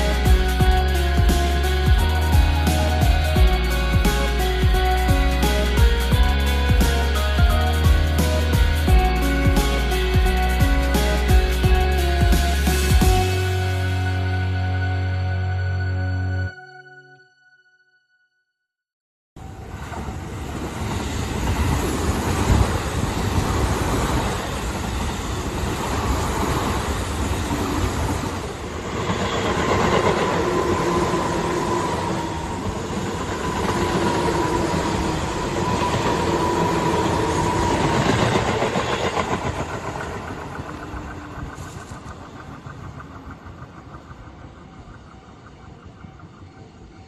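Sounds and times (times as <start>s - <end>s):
electric train passing: 0.0s - 16.4s, 19.4s - 47.0s.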